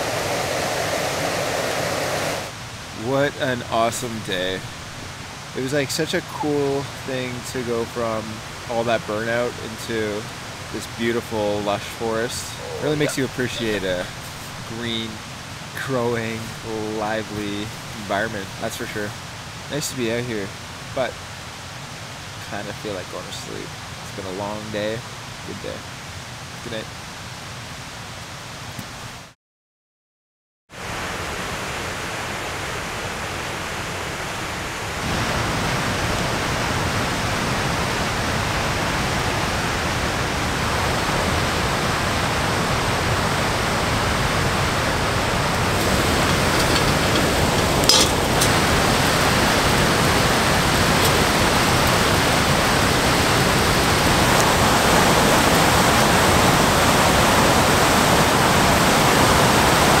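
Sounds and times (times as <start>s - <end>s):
whitewater rushing: 0.0s - 24.7s, 30.8s - 60.0s.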